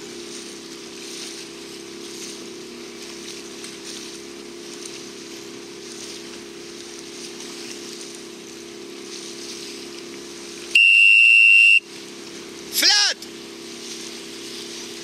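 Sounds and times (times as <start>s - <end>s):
outboard motor drone: 0.0s - 15.0s.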